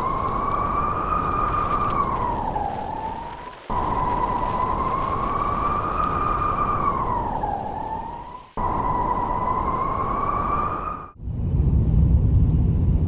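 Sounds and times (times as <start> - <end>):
wind whistling: 0.0 - 11.7
loud rushing wind: 0.0 - 13.0.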